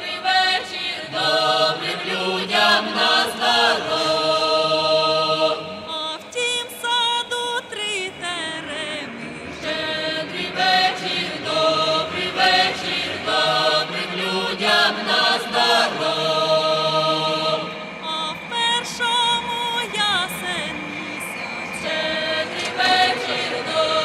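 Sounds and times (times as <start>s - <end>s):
voices singing a folk carol: 0.0s - 24.0s.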